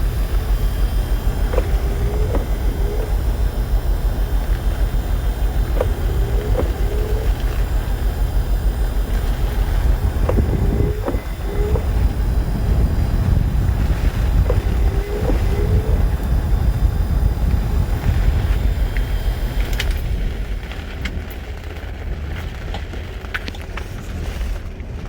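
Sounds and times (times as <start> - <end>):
storm wind buffeting: 0.0 - 21.0
low rumble: 0.0 - 22.8.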